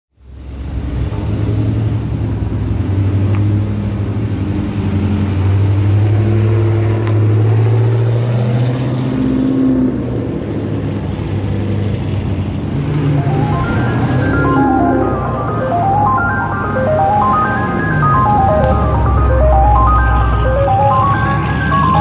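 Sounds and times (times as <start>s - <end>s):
car engine drone: 0.2s - 22.0s.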